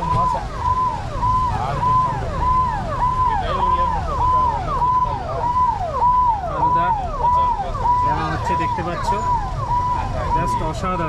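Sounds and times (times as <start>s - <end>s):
electronic siren-like tone: 0.0s - 11.0s
low street rumble: 0.0s - 11.0s.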